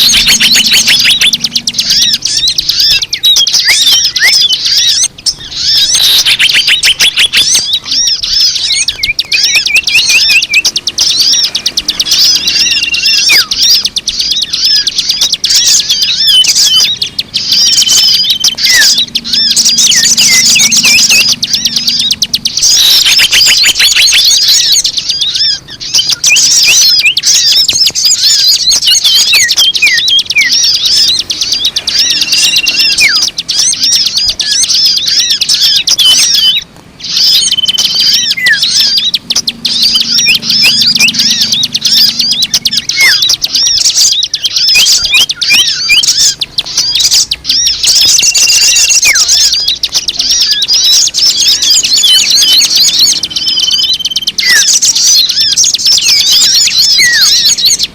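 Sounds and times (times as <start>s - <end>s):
small songbirds chattering: 0.0s - 57.9s.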